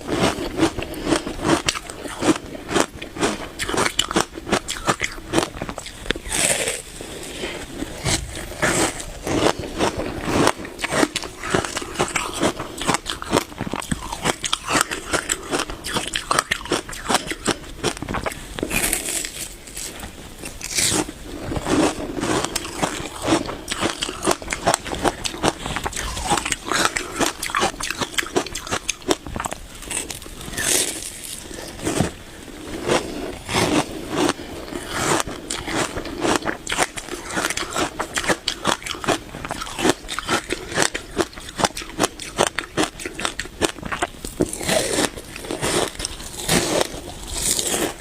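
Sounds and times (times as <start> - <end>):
chewing crunchy ice: 0.0 - 48.0.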